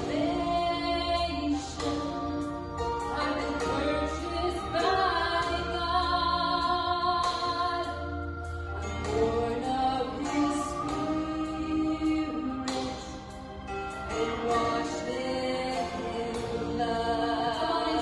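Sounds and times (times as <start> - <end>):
instrumental accompaniment: 0.0 - 18.0
two women singing a duet: 0.0 - 18.0.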